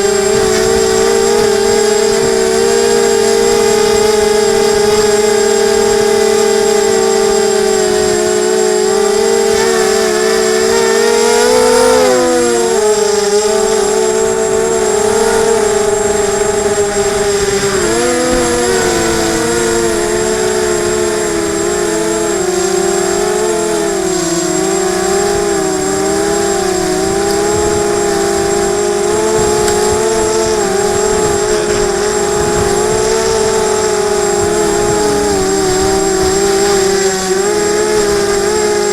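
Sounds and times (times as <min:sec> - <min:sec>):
drone propellers whining: 0:00.0 - 0:38.9.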